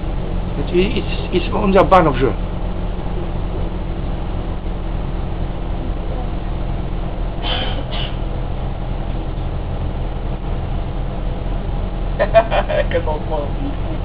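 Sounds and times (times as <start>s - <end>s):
train rumble from inside carriage: 0.0s - 14.0s.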